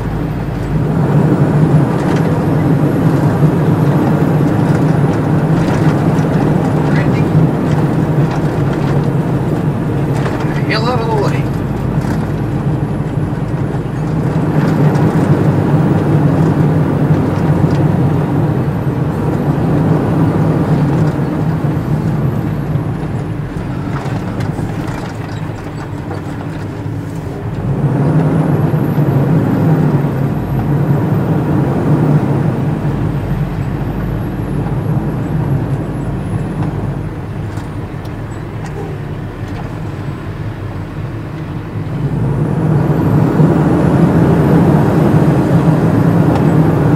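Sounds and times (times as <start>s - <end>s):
truck diesel engine running: 0.0s - 46.9s.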